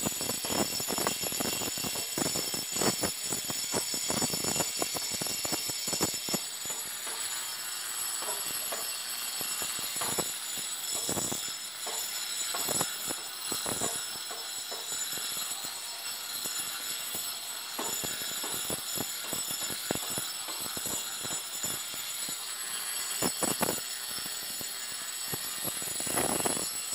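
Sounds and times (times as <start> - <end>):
angle grinder motor whine: 0.0 - 26.9
disc grating on concrete: 0.3 - 26.9.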